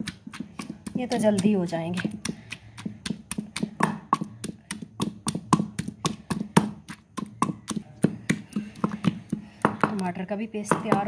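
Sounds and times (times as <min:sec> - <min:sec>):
pestle pounding in stone mortar: 0:00.0 - 0:11.0.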